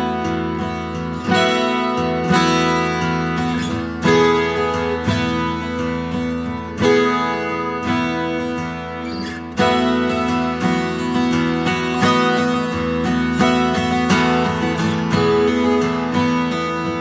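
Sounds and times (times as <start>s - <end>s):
plucked string instrument: 0.0s - 17.0s.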